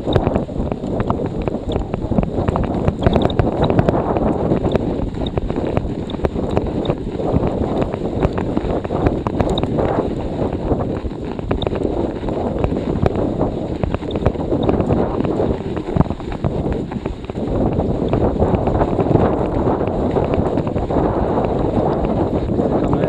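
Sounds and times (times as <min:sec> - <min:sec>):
bike clicks and rattles: 0:00.0 - 0:23.0
wind buffeting microphone: 0:00.0 - 0:23.0.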